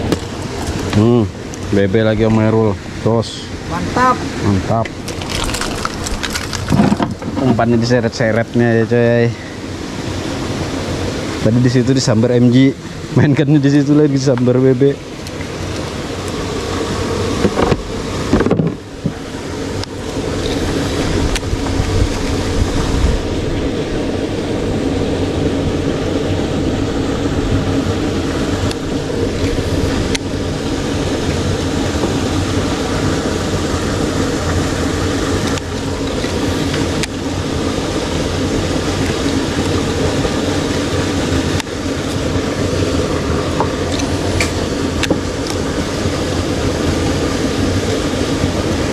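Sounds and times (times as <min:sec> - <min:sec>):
boat engine running: 0:00.0 - 0:48.9.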